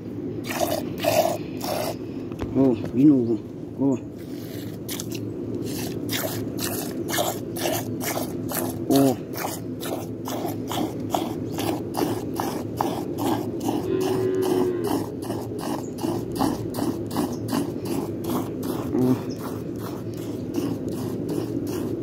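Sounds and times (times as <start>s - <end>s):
milk squirting into metal cup: 0.4s - 2.0s, 4.3s - 22.0s.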